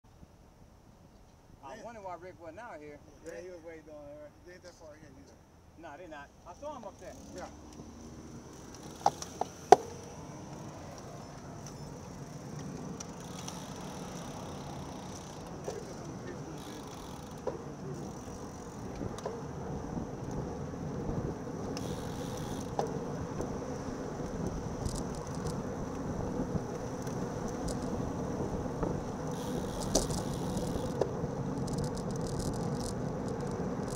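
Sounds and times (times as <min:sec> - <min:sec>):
wind: 0:00.0 - 0:33.9
bicycle tyres rumbling on asphalt: 0:06.6 - 0:33.9
bike rattles and clicks: 0:06.7 - 0:33.9.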